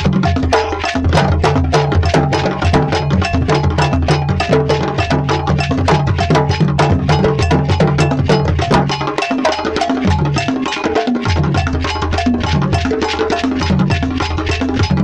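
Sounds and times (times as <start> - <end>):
percussion-driven music: 0.0 - 15.0.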